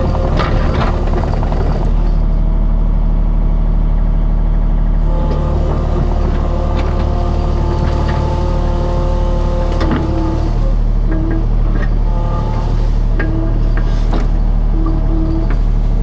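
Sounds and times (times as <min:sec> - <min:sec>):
skid steer engine running: 0:00.0 - 0:16.0.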